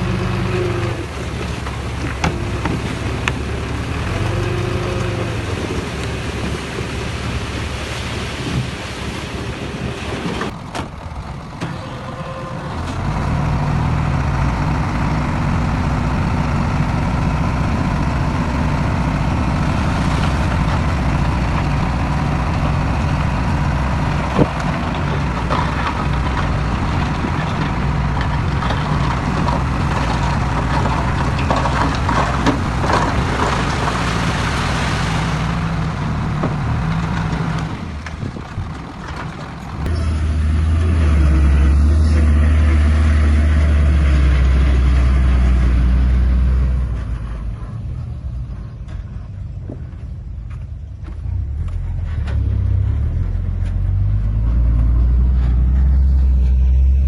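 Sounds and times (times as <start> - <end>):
heavy diesel machinery running: 0.0 - 8.4, 9.4 - 57.0.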